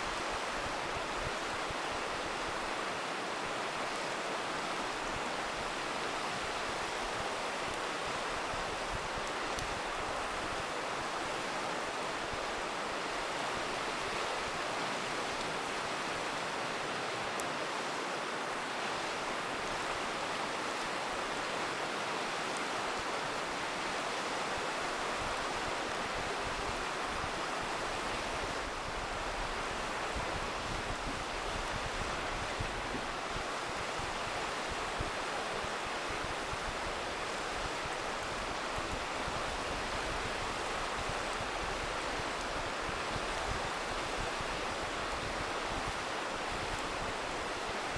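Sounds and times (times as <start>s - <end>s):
campfire crackling: 0.0s - 47.9s
river rushing: 0.0s - 47.9s.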